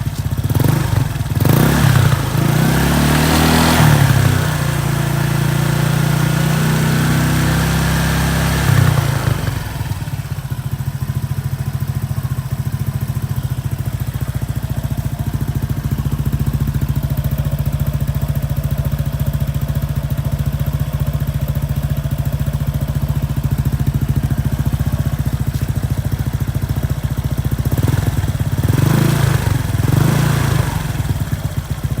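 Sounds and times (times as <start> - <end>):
scooter engine revving and idling: 0.0 - 32.0.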